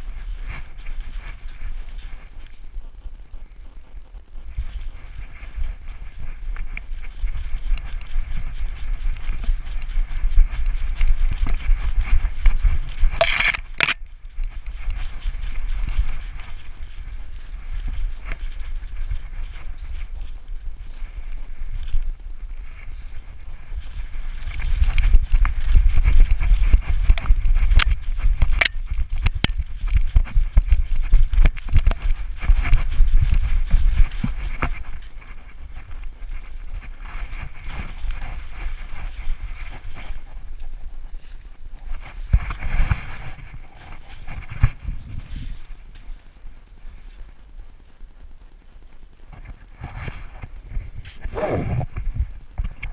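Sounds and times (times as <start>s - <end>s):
leaves crunching underfoot: 0.0s - 3.6s, 4.4s - 47.4s
jostling camera rumble: 0.0s - 52.9s
wind on microphone: 0.0s - 52.9s.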